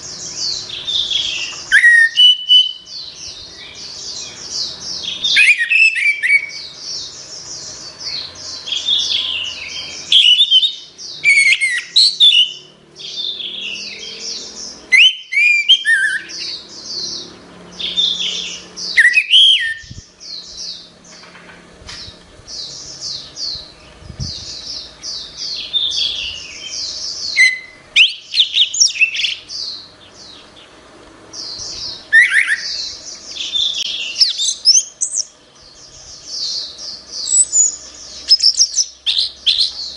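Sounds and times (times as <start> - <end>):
thrush singing chirps and whistles: 0.0 - 21.4, 22.0 - 30.7, 31.3 - 39.9.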